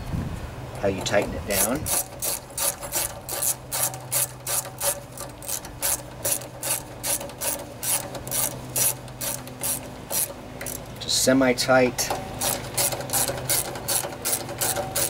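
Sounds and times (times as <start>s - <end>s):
socket wrench ratcheting: 1.0s - 10.9s, 12.1s - 15.0s.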